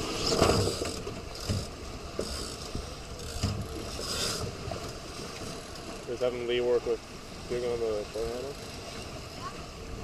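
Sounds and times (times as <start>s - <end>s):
low boat engine running: 0.0s - 10.0s
water splashing against boat hull: 0.0s - 10.0s.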